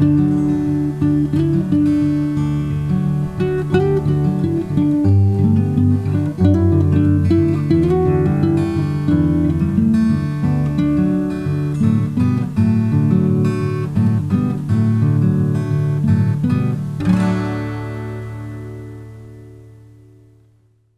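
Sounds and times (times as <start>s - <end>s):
fingerpicked acoustic guitar: 0.0s - 20.9s.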